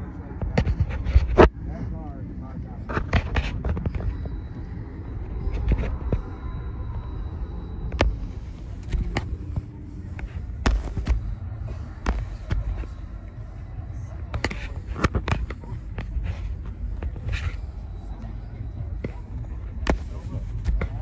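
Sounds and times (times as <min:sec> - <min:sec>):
distant voices: 0:00.0 - 0:21.0
low rumble: 0:00.0 - 0:21.0.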